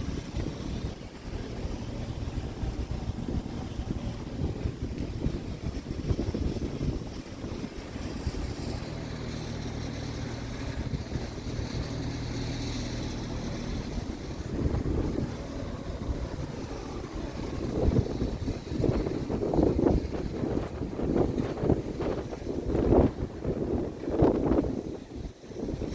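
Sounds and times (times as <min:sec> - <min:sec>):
truck diesel engine running: 0:00.0 - 0:25.7
wind buffeting microphone: 0:00.0 - 0:25.9.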